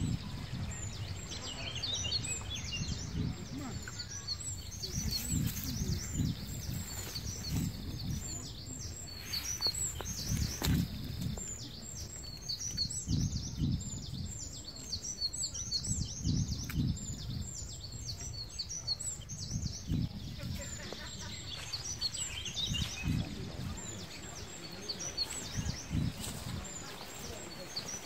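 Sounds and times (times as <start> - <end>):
low rumbles: 0.0 - 14.7, 19.2 - 28.0
songbirds chirping: 0.0 - 28.0.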